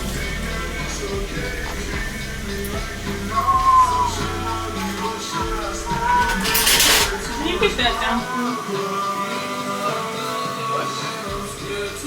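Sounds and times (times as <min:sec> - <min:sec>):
song with singing: 0:00.0 - 0:12.0.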